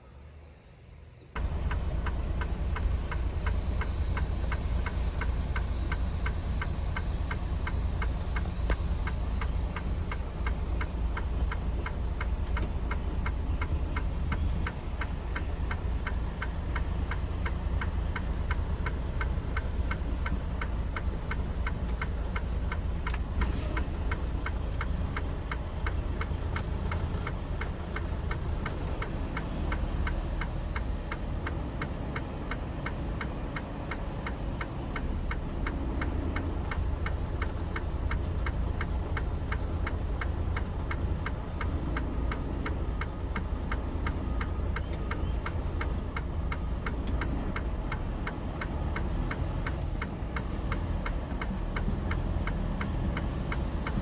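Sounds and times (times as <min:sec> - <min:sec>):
diesel engine rumble: 0:00.0 - 0:54.0
sharp ticking: 0:01.4 - 0:47.2.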